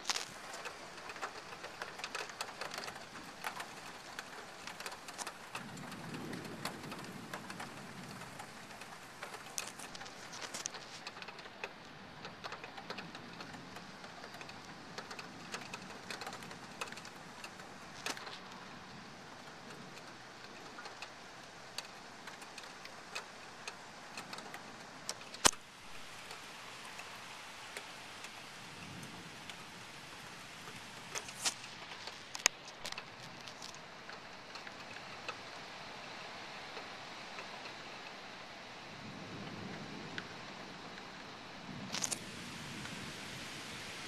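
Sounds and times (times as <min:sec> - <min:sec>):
heavy rain: 0:00.0 - 0:44.0
raindrops ticking: 0:00.0 - 0:44.0.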